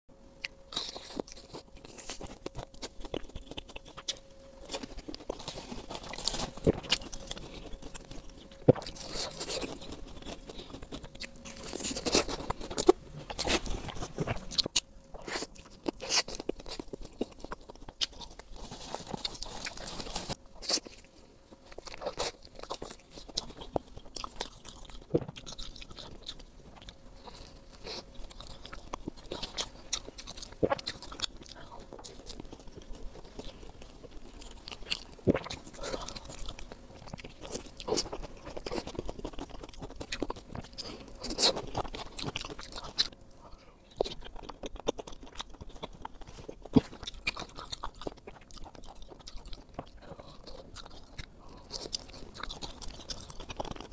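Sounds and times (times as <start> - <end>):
person chewing food: 0.3 - 53.9.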